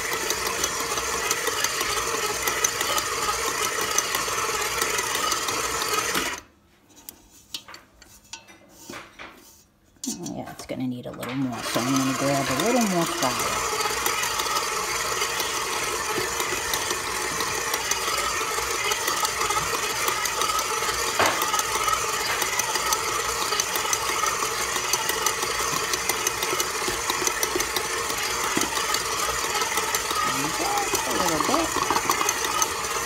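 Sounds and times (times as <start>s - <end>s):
stand mixer running: 0.0s - 6.5s, 11.2s - 33.0s.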